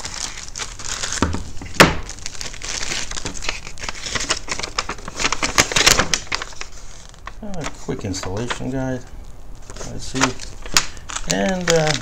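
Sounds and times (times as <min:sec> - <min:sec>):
paper rustling: 0:00.0 - 0:08.7, 0:09.6 - 0:12.0
plastic wrapping crinkling: 0:00.0 - 0:12.0.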